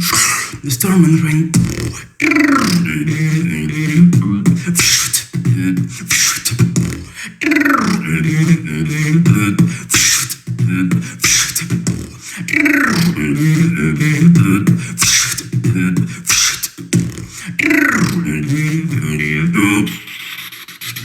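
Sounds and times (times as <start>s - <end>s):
person beatboxing: 0.0s - 21.0s.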